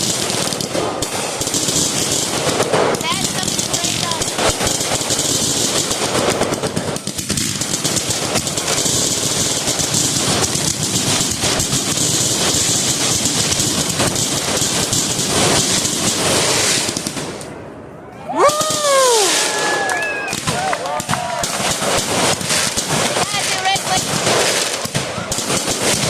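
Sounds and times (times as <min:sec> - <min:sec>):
firecrackers popping: 0:00.0 - 0:17.7, 0:18.4 - 0:26.0.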